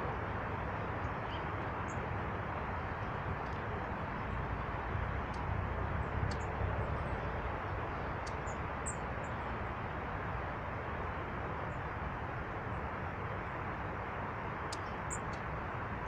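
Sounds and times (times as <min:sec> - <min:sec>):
low rushing background: 0:00.0 - 0:16.0.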